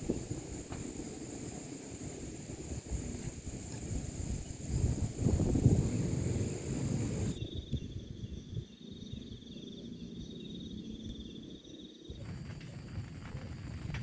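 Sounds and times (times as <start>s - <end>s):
wind rumble: 0.0s - 14.0s.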